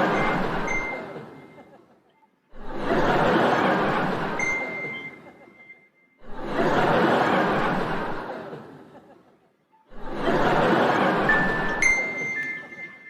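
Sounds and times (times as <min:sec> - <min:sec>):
group of people laughing: 0:00.0 - 0:13.0.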